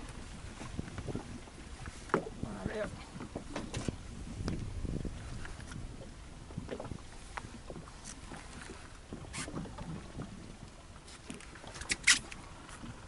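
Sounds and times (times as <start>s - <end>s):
faint wind: 0.0s - 13.0s
water noise around boat: 0.0s - 13.0s.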